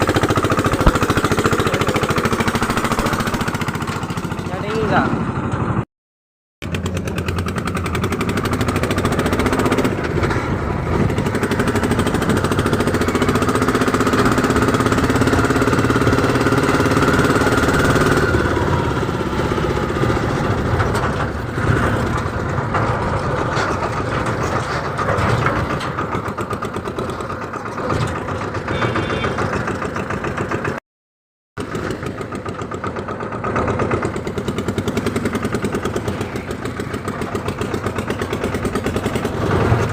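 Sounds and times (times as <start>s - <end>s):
tractor diesel engine running: 0.0s - 5.8s, 6.6s - 30.8s, 31.6s - 39.9s.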